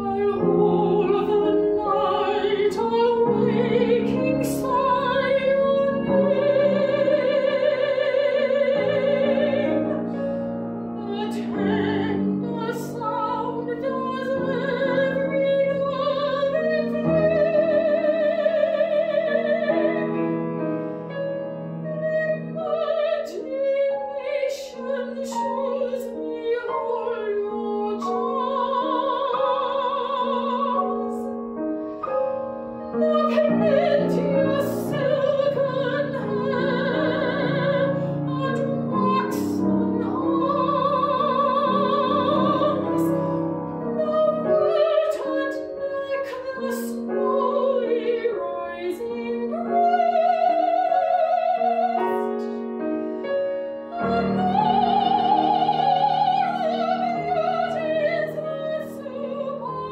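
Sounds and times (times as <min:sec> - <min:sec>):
piano accompaniment: 0:00.0 - 0:59.9
woman singing classical song: 0:00.0 - 0:59.9.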